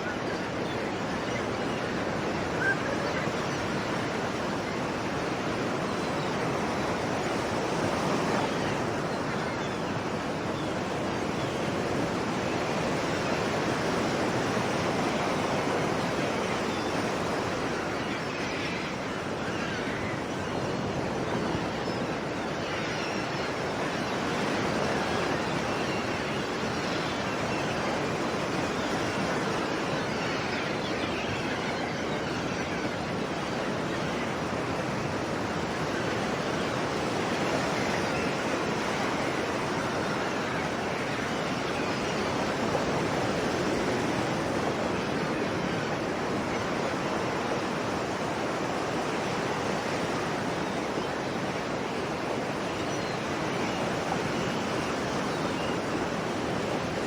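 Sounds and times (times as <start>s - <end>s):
sea waves surf: 0.0s - 57.0s.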